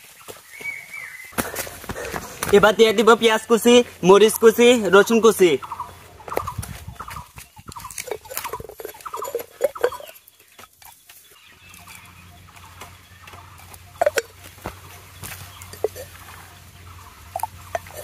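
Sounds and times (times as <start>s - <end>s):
bird chirping: 0.1s - 18.0s.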